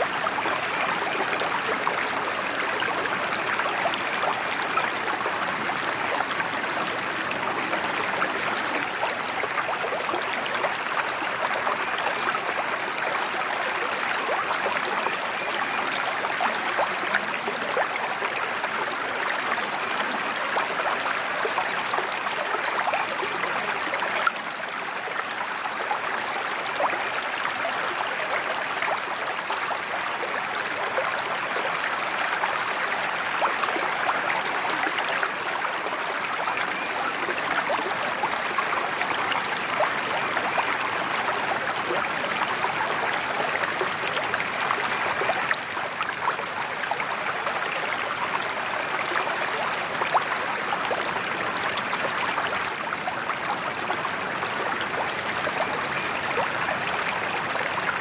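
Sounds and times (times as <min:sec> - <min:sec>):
waterfall pouring into pond: 0:00.0 - 0:58.0.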